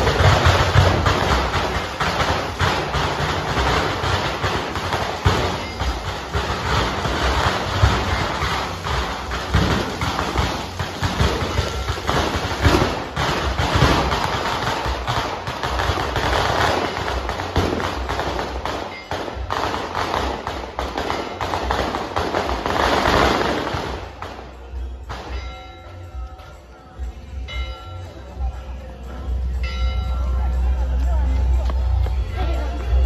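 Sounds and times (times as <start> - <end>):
firecrackers crackling: 0.0 - 27.8.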